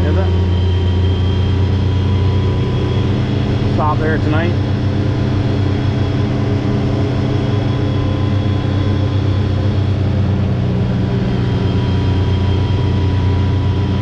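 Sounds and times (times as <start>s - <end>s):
faint steady whine: 0.0s - 14.0s
vehicle engine running: 0.0s - 14.0s.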